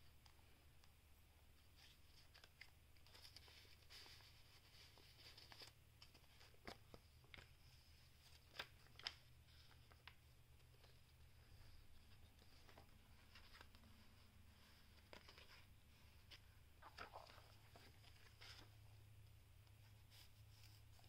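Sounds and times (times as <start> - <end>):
paper pages rustling and crinkling: 1.6 - 21.0.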